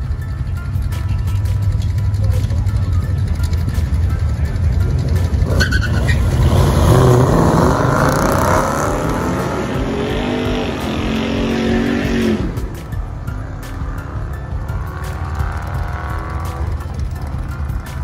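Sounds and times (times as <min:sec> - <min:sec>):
car engines rumbling and accelerating: 0:00.0 - 0:18.0.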